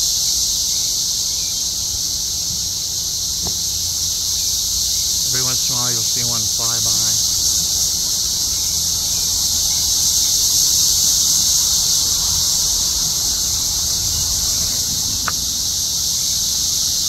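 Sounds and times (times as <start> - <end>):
cicadas chorus drone: 0.0 - 17.0.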